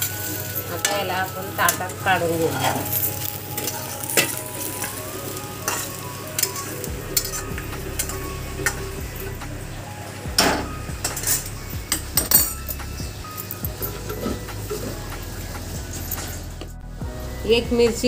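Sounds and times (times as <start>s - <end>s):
oil sizzling: 0.0s - 18.0s.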